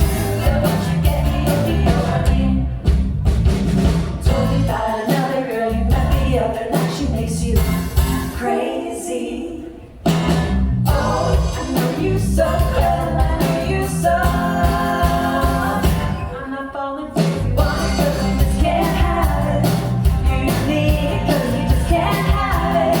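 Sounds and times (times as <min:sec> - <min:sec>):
lead vocal singing: 0:00.0 - 0:03.0, 0:04.2 - 0:23.0
drums hitting: 0:00.0 - 0:08.4, 0:10.1 - 0:16.2, 0:17.2 - 0:23.0
live rock band playing: 0:00.0 - 0:08.4, 0:09.9 - 0:16.4, 0:17.1 - 0:23.0.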